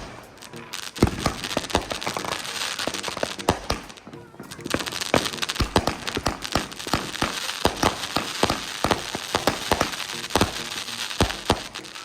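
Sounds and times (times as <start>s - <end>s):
fireworks crackling: 0.0s - 12.0s
fireworks popping and banging: 0.0s - 12.0s.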